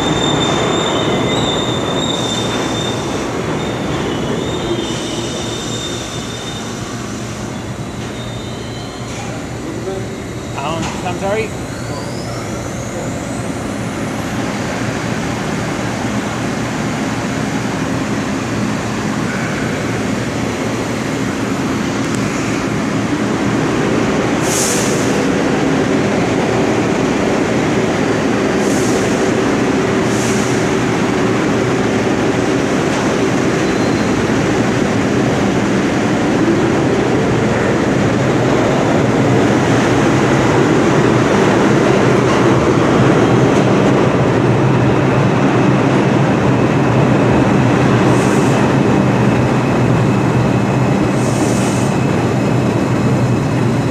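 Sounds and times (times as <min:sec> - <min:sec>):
subway train running: 0:00.0 - 0:53.9.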